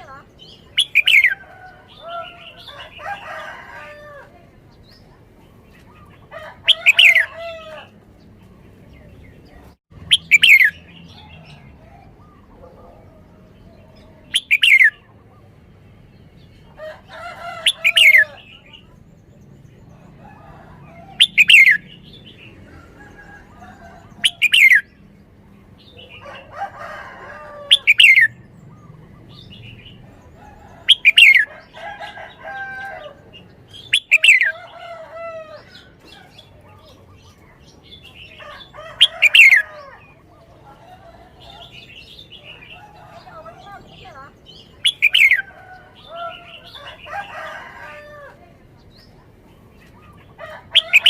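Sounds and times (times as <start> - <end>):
bird warbling chatter: 0.0 - 7.9, 9.4 - 15.6, 19.9 - 25.0, 27.4 - 51.0.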